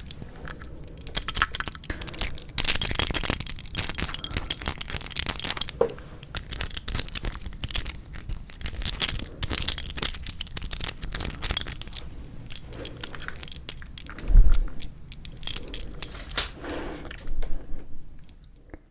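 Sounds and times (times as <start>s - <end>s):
plastic packaging crinkling: 0.0s - 16.6s.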